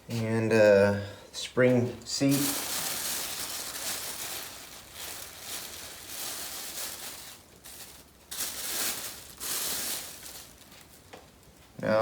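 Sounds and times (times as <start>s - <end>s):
rustling and crinkling: 1.7s - 11.9s.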